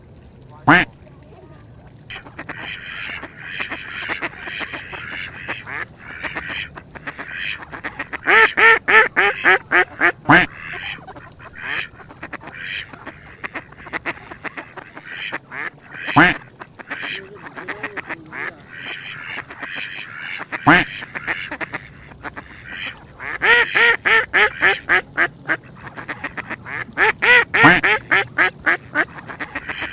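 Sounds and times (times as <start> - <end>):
ducks quacking: 0.6 - 0.9, 2.1 - 29.9.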